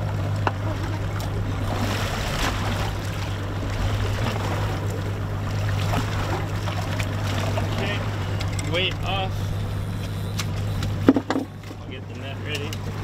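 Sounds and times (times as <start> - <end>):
outboard motor idling: 0.0 - 13.0
water splashing against hull: 0.0 - 13.0.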